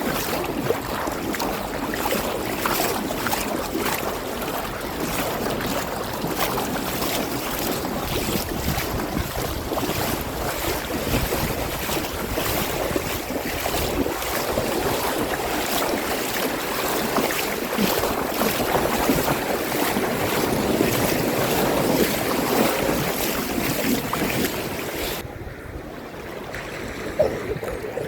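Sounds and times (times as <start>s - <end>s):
seawater washing and surging: 0.0s - 28.0s
wind buffeting microphone: 0.0s - 28.0s.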